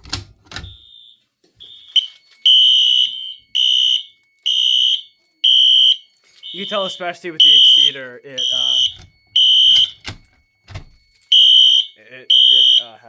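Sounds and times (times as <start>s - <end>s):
fire alarm horns beeping: 0.7s - 13.0s.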